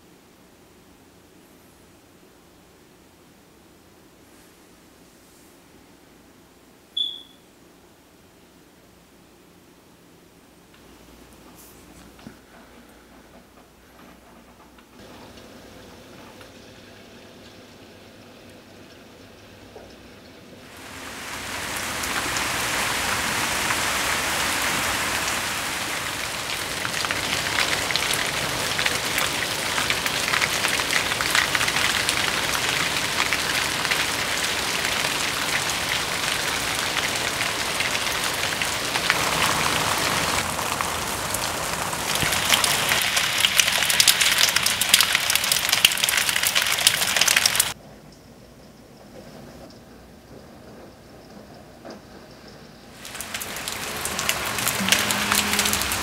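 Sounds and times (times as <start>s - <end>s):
rain falling steadily: 7.9s - 56.0s.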